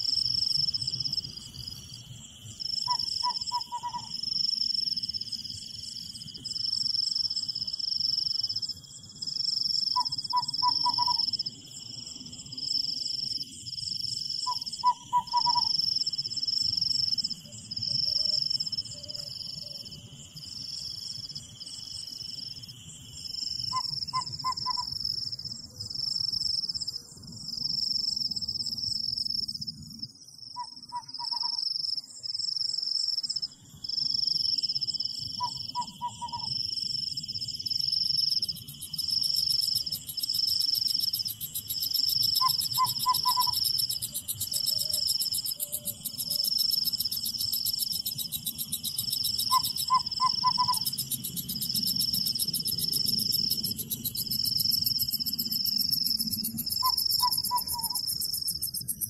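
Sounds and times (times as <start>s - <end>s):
crickets chirping: 0.0s - 59.0s
insect trill: 0.0s - 59.0s.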